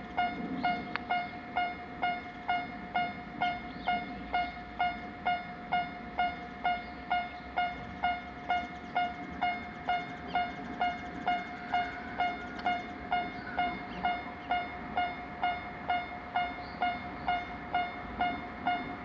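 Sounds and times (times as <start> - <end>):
level crossing warning bell ringing: 0.0 - 19.0.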